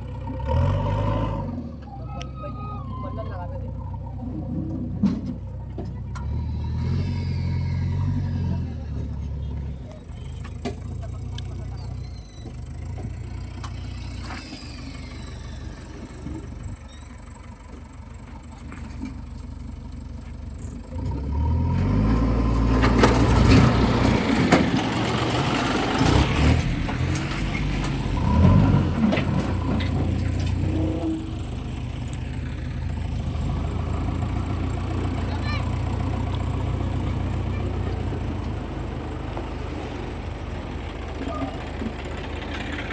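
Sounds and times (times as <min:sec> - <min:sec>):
heavy diesel engine idling and revving: 0:00.0 - 0:42.9.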